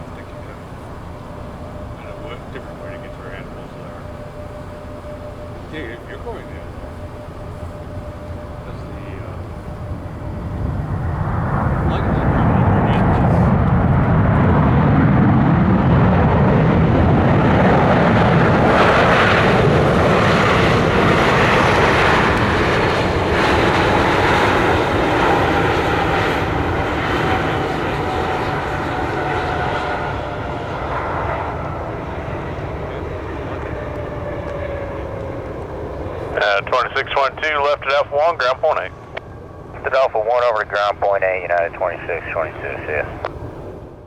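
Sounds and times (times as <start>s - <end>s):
jet engines whining: 0.0s - 44.0s.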